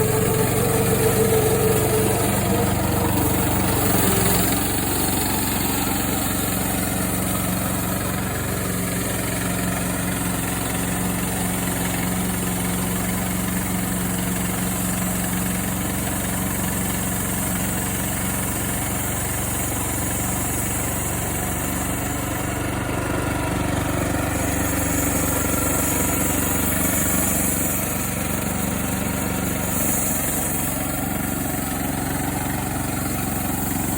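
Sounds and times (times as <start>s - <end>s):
sawmill engine running: 0.0s - 33.9s.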